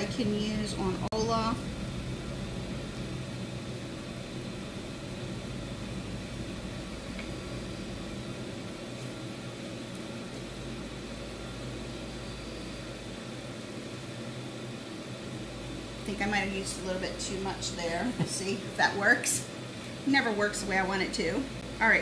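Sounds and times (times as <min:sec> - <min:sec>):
steady room hum and hiss: 0:00.0 - 0:22.0.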